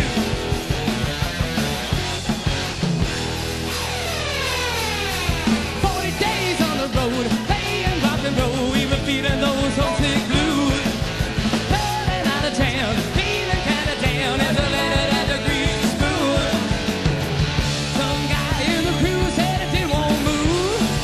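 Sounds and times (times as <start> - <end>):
rock music with vocals: 0.0 - 21.0.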